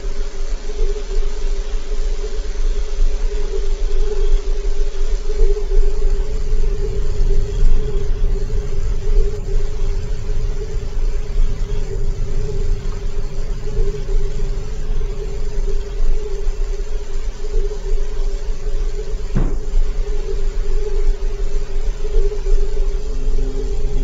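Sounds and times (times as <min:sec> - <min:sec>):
deep rumbling drone: 0:03.9 - 0:24.0.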